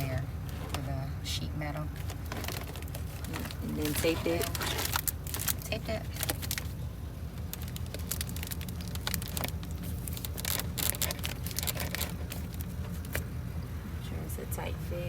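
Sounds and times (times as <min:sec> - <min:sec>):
foil hose crinkling: 0:00.0 - 0:13.6
vehicle low hum: 0:00.0 - 0:15.0.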